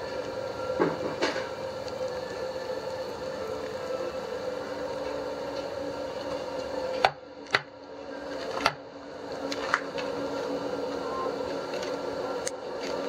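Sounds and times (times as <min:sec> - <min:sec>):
workshop machinery hum: 0:00.0 - 0:13.0.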